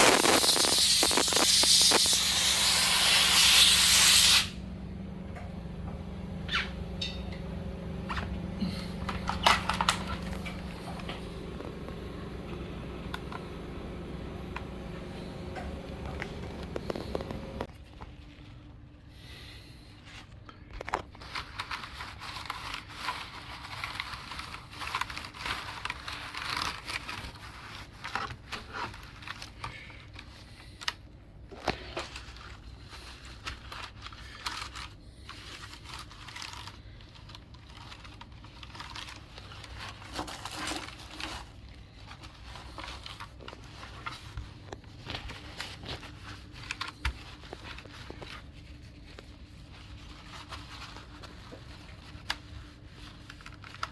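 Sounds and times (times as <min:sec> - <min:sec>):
crinkling and scratching on keyboard: 0:00.0 - 0:03.0, 0:08.0 - 0:14.0, 0:14.7 - 0:18.8, 0:20.0 - 0:53.9.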